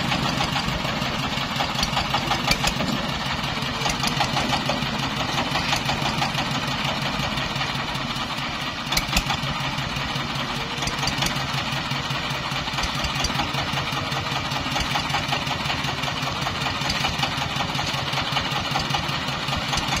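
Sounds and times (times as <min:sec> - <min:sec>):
diesel engine chugging: 0:00.0 - 0:20.0.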